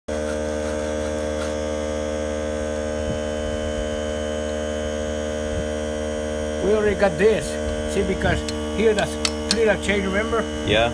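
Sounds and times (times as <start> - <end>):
steady electrical hum: 0.1 - 10.9.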